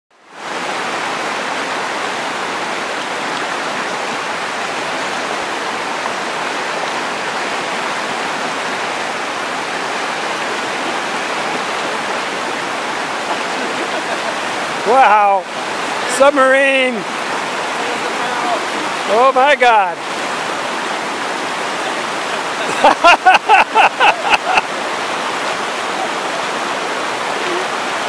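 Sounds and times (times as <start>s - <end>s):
river rapids rushing: 0.2s - 28.0s.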